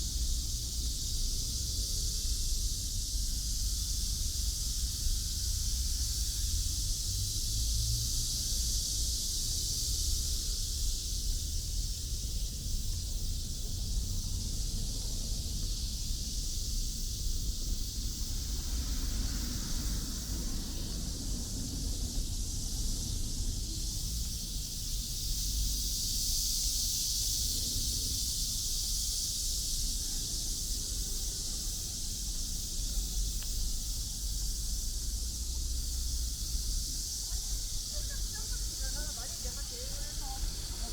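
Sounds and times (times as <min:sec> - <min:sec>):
high hiss: 0:00.0 - 0:40.9.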